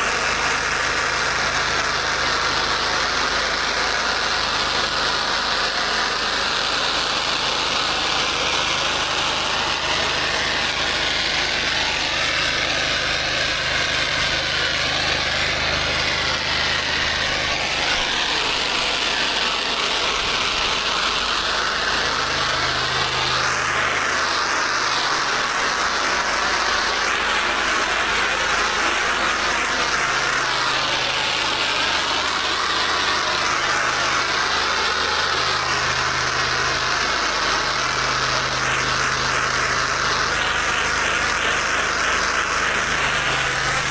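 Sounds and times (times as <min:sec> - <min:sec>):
high-pressure water spray hiss: 0:00.0 - 0:43.9
pressure washer engine running: 0:00.0 - 0:43.9.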